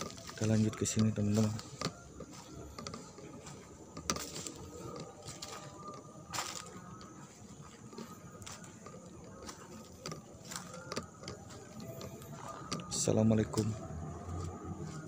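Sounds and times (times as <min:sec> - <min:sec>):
footsteps crunching dry leaves: 0:00.0 - 0:09.8, 0:12.4 - 0:15.0.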